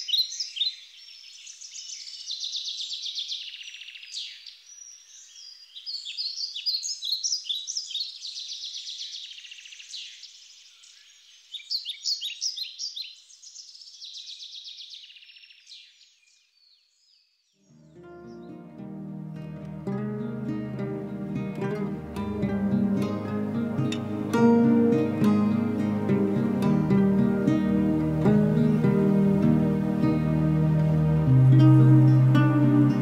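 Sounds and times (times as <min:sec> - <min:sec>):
songbirds chirping and trilling: 0:00.0 - 0:33.0.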